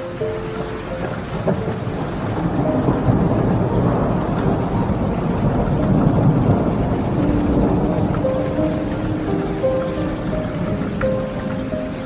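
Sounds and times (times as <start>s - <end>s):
rolling thunder: 0.0s - 12.0s
steady rain: 0.0s - 12.0s.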